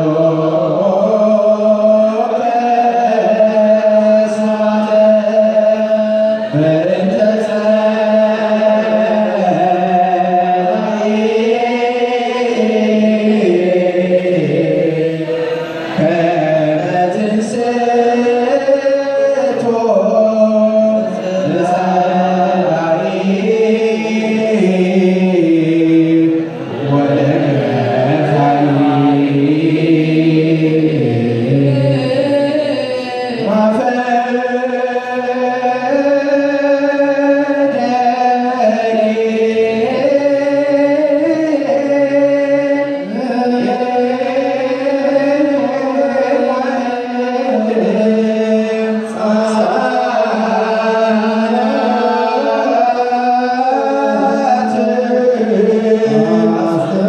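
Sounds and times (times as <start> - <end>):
male voices chanting: 0.0 - 57.0.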